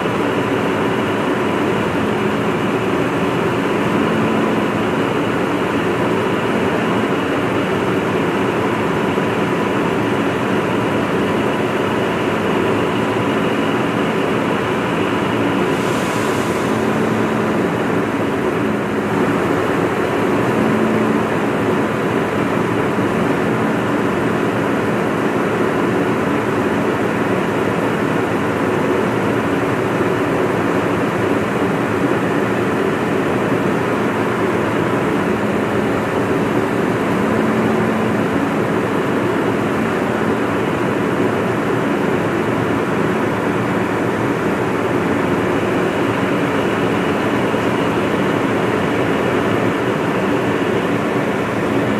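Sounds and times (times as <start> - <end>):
diesel truck engine running: 0.0 - 51.9
thin steady whine: 0.0 - 51.9.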